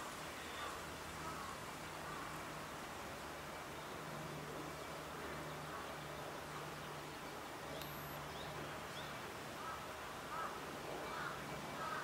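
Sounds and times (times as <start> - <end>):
short faint bird calls: 0.2 - 12.0.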